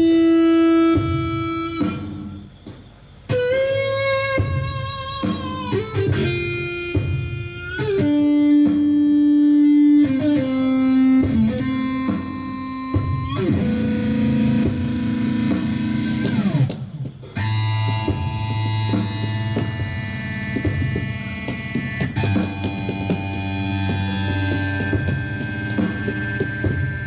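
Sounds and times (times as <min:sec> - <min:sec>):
electric guitar sustained notes: 0:03.3 - 0:16.8, 0:17.4 - 0:27.0.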